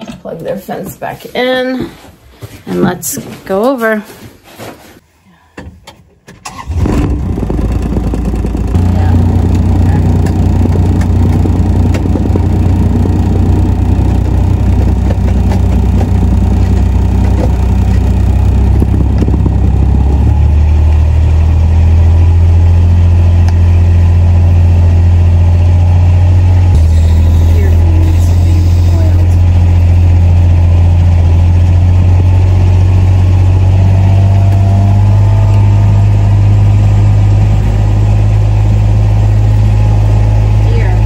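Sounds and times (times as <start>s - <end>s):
small vehicle engine running: 6.5s - 41.0s.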